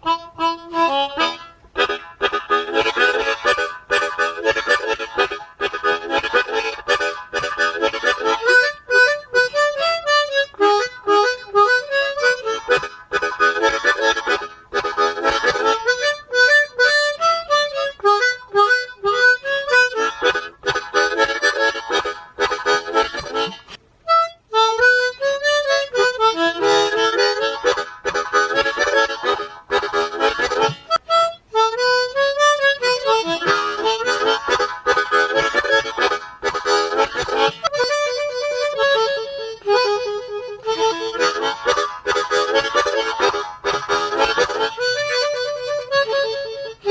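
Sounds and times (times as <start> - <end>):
harmonica playing chords and melody: 0.0 - 46.9.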